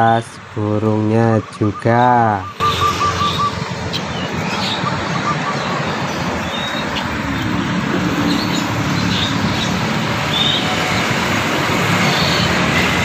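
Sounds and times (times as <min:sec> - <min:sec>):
road traffic noise: 0:00.0 - 0:13.0
high bird chirps: 0:01.1 - 0:11.1, 0:12.0 - 0:12.7.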